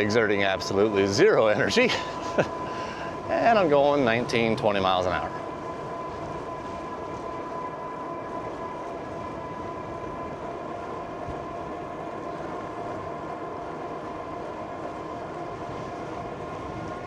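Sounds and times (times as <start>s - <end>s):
electric bike motor whining: 0.0s - 17.0s.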